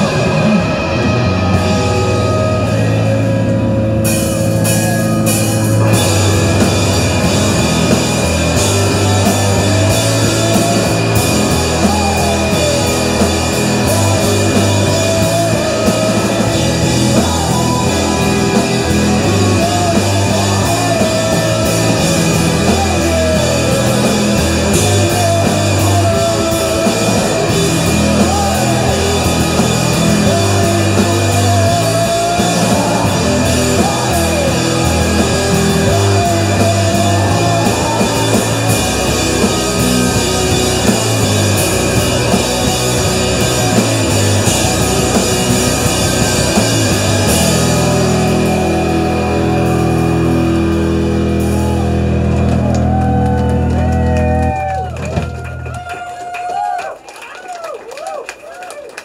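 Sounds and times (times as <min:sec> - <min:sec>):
person singing: 0:00.0 - 0:50.3
distorted electric guitars: 0:00.0 - 0:56.4
bass guitar: 0:00.0 - 0:56.8
drum kit: 0:00.0 - 0:56.8.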